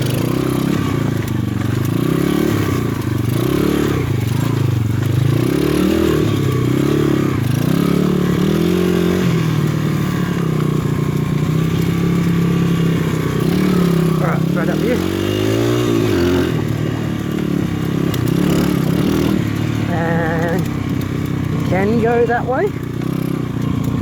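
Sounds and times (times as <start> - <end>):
pit bike engine revving: 0.0 - 24.0.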